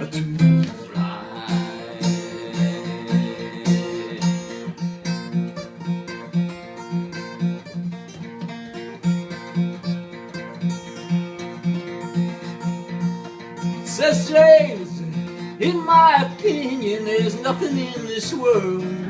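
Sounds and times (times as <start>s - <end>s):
fingerpicked acoustic guitar: 0.0s - 19.0s.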